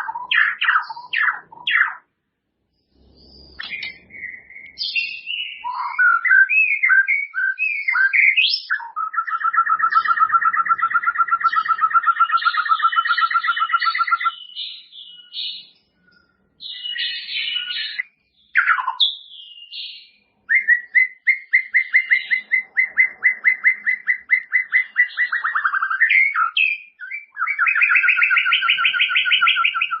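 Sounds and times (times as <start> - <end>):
bird singing trills: 0.0 - 2.1, 2.7 - 30.0.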